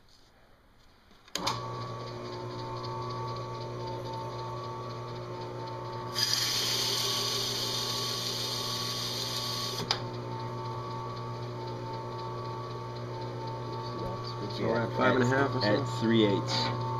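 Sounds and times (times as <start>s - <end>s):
drill press running: 1.3s - 16.9s.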